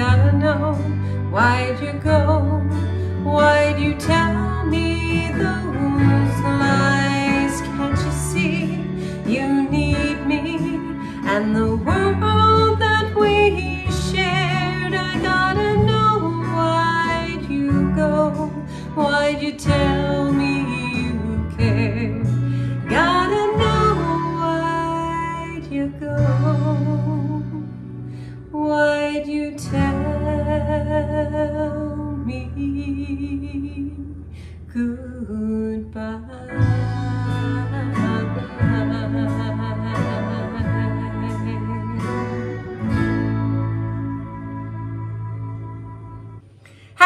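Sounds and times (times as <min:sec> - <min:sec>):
guitar accompaniment: 0:00.0 - 0:34.3, 0:36.5 - 0:47.0
woman singing country song: 0:00.0 - 0:45.4.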